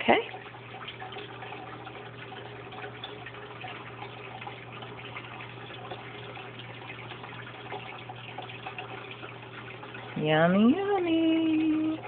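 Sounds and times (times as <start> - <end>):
thick liquid pouring: 0.0 - 10.3.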